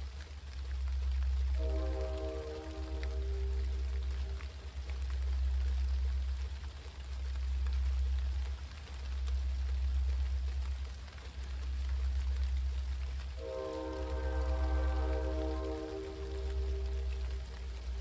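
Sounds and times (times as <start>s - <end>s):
steady rain falling: 0.0s - 18.0s
strong low rumble: 0.0s - 18.0s.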